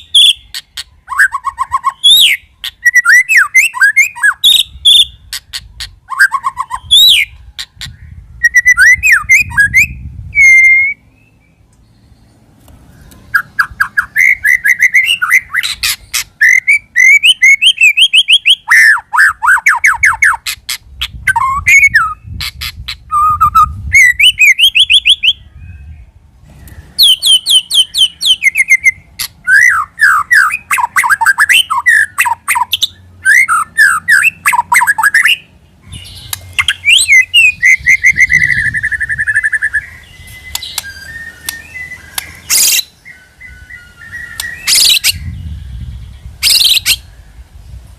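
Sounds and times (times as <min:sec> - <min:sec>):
bird singing trills and whistles: 0:00.0 - 0:47.8.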